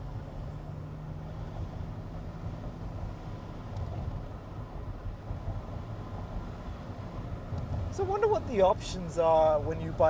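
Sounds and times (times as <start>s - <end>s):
tyre and road noise: 0.0s - 10.0s.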